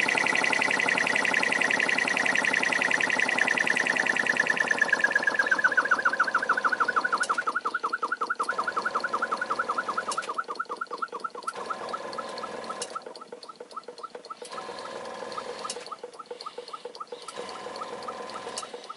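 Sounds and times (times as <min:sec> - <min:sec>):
model steam engine chuffing: 0:00.0 - 0:18.9.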